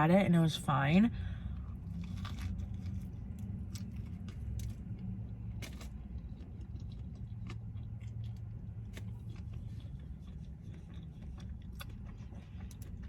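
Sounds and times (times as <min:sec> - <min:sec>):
car cabin engine hum: 0:00.0 - 0:13.0
chewing and food handling clicks: 0:01.9 - 0:13.0.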